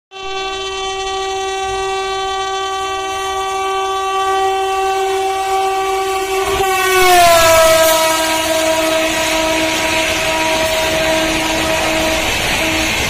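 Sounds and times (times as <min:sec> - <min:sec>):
locomotive horn blast: 0:00.1 - 0:13.0.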